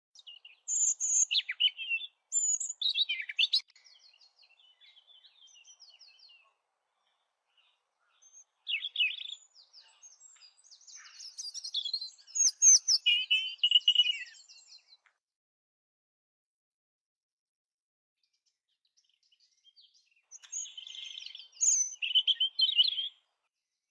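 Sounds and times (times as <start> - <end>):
robin singing: 0.1 - 15.1, 18.2 - 23.3.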